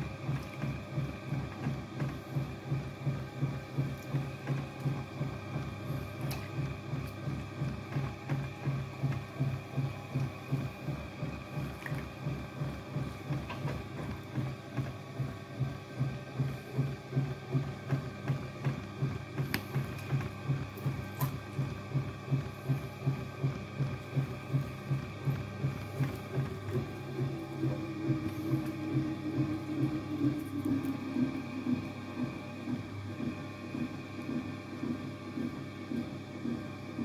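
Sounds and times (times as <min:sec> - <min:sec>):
potter's wheel thrumming: 0:00.0 - 0:37.0.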